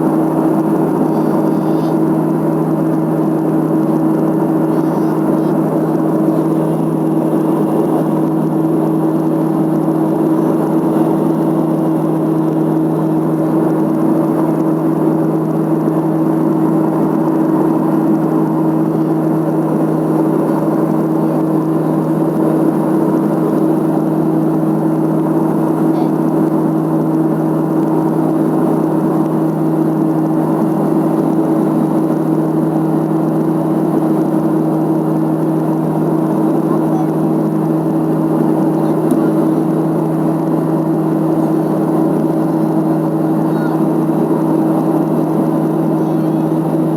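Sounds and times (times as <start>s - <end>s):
turboprop engines droning: 0.0s - 46.9s.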